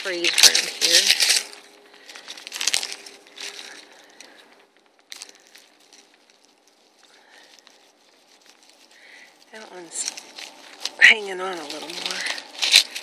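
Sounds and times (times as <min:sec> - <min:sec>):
footsteps on frozen ground: 0:00.0 - 0:13.0.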